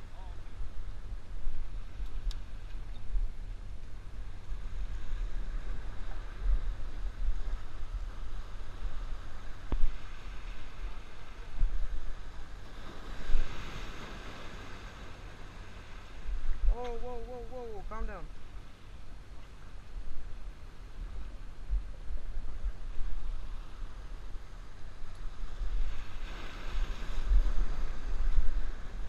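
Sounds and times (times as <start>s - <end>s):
waves washing: 0.0s - 29.0s
wind gusting against microphone: 0.0s - 29.0s.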